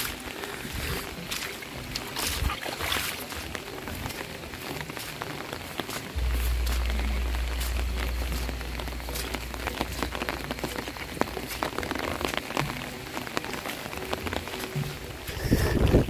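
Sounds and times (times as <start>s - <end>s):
rain drops tapping: 0.0s - 16.0s
wind rumble on microphone: 0.0s - 16.0s.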